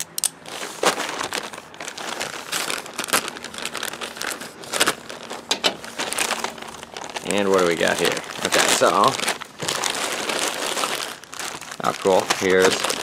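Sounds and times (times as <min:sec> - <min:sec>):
plastic mailer crinkling: 0:00.4 - 0:13.0.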